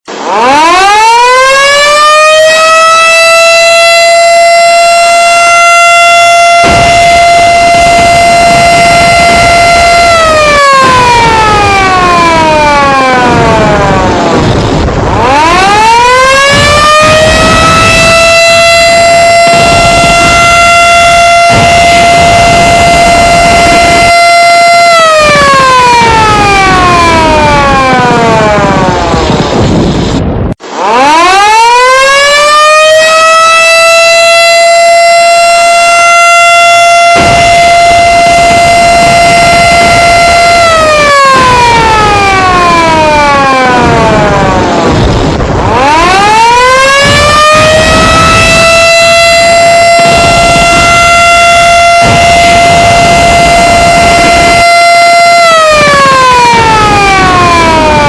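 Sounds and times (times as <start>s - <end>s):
siren wailing: 0.1s - 58.0s.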